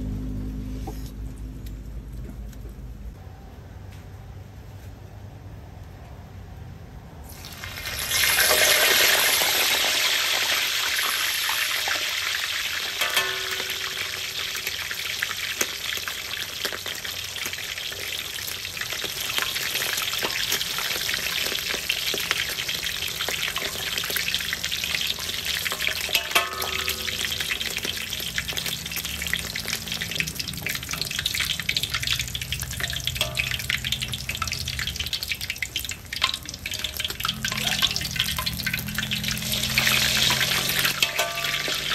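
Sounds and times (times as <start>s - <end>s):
meat sizzling in hot oil: 7.3s - 41.9s.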